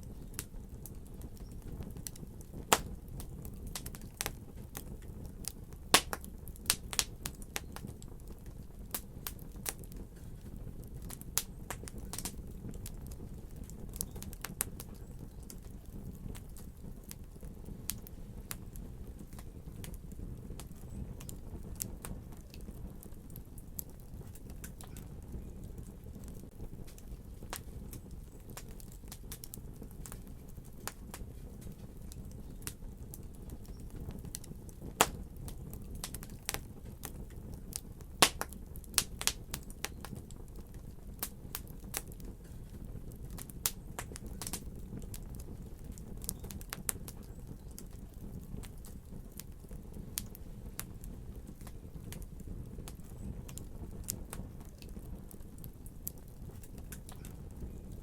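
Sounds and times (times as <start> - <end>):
low rumble of flames: 0.0 - 58.0
wood fire crackling and popping: 0.0 - 58.0.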